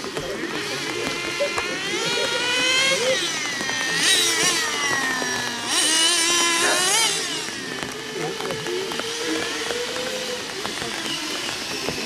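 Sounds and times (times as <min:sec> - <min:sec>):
rc car engines revving: 0:00.0 - 0:12.0.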